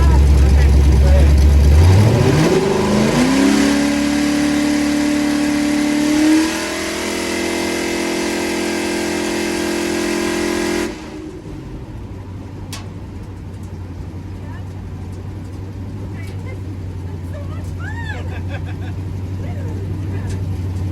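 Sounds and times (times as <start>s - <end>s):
truck engine at full throttle: 0.0s - 20.9s.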